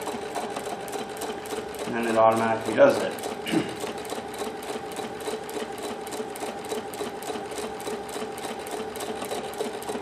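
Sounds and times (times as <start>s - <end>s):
sewing machine running: 0.0s - 10.0s.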